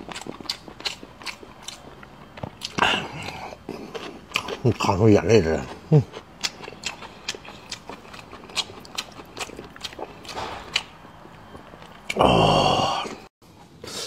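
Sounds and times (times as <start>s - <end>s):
person chewing wet clicks: 0.0s - 12.3s.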